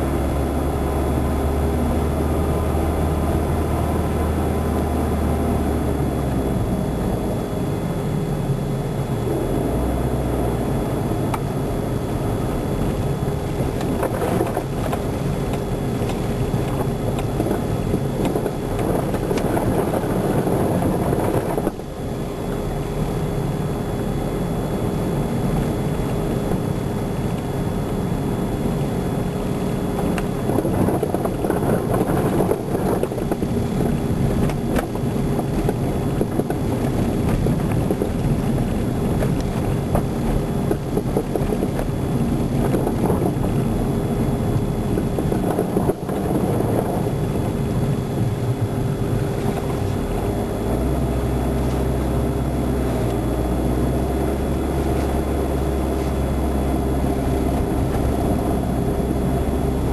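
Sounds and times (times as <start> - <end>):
car engine rumble: 0.0 - 59.9
tyres on road: 0.0 - 59.9
wind: 0.0 - 59.9.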